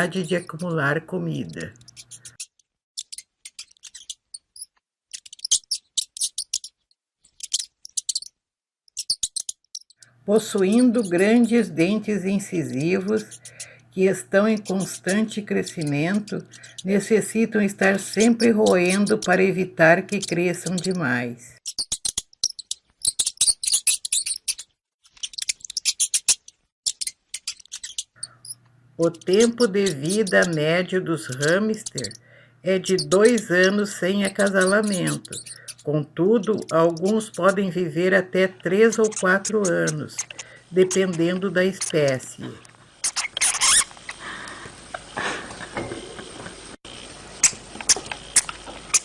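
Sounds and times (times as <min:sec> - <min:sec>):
hamster squeaking: 0:00.0 - 0:42.2, 0:43.0 - 0:44.2, 0:47.4 - 0:49.0.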